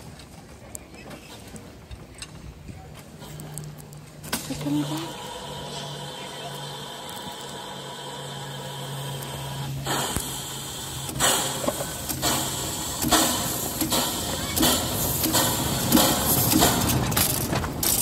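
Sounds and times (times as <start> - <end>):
rush of steam: 2.9 - 18.0
steam locomotive exhaust chuffing: 3.0 - 18.0.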